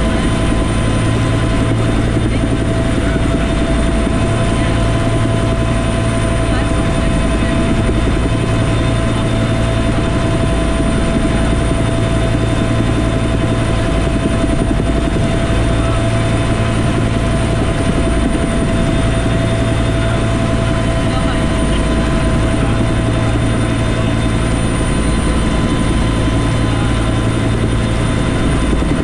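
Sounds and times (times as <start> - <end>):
helicopter rotor and turbine noise: 0.0 - 29.0.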